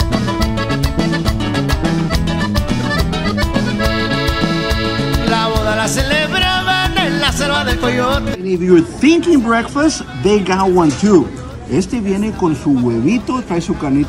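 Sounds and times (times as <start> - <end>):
accordion-led latin music: 0.0 - 14.0.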